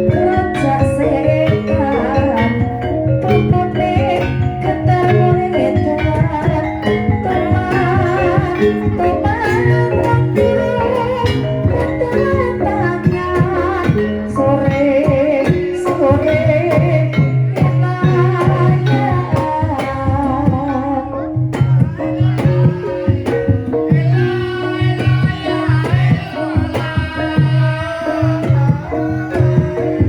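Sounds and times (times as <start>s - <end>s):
pitched percussion instruments: 0.0s - 30.0s
woman singing with vibrato: 0.0s - 30.0s.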